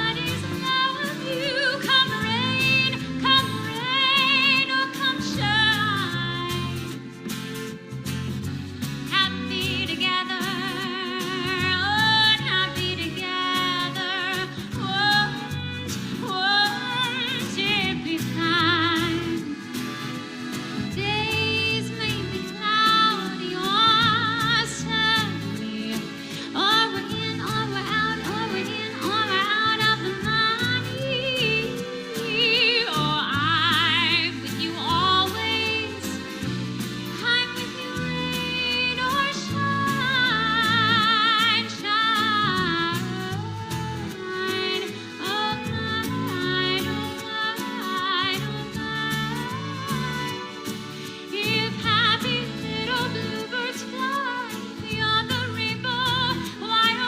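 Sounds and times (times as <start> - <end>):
woman singing a ballad: 0.0 - 7.2, 9.0 - 57.0
live instrumental accompaniment: 0.0 - 57.0.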